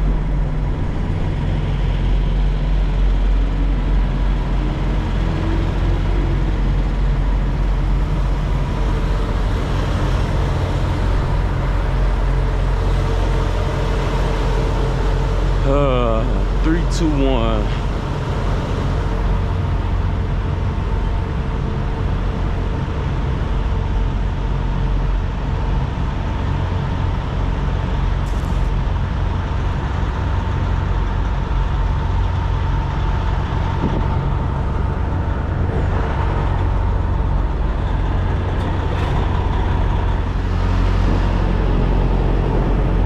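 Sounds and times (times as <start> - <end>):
diesel engine drone: 0.0 - 43.0.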